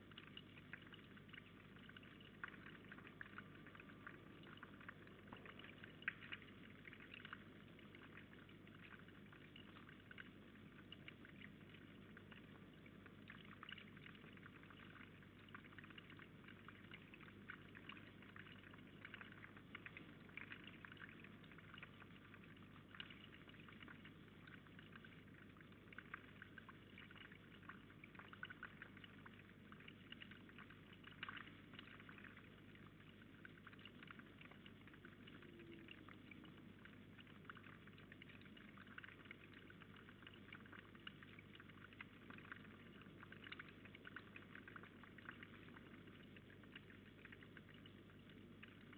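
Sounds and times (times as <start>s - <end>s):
low electrical hum: 0.0s - 48.9s
water trickling: 0.0s - 48.9s.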